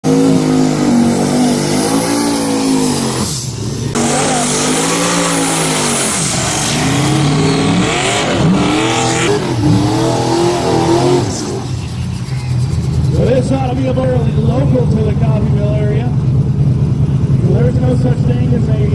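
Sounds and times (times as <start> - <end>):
drag racing engines revving: 0.0 - 18.9.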